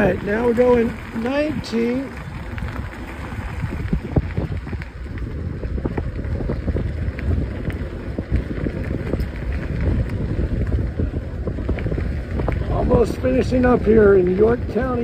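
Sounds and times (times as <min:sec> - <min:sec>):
tyres rumbling over gravel: 0:00.0 - 0:15.0
wind buffeting microphone: 0:00.0 - 0:15.0.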